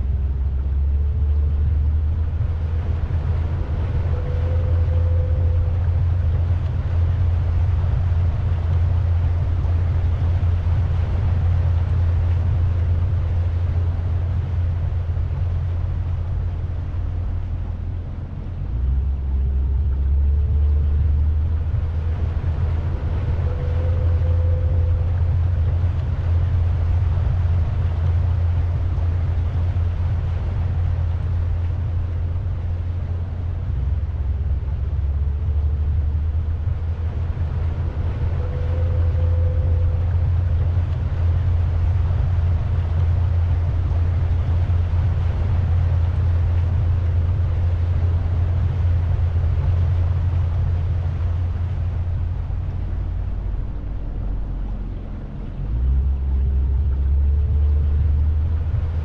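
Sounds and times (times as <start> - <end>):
boat motor droning: 0.0 - 59.0.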